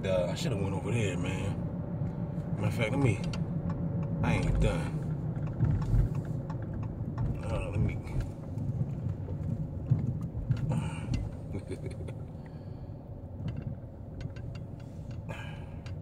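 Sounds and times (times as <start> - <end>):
car engine and road rumble: 0.0 - 16.0
small clicks and rattles: 3.0 - 16.0.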